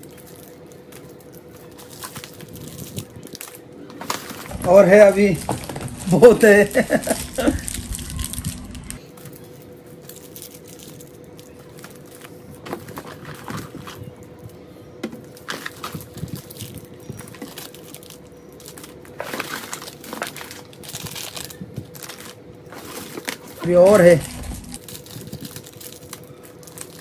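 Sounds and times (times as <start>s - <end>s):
plastic wrappers crinkling: 0.0s - 14.6s, 15.2s - 27.0s.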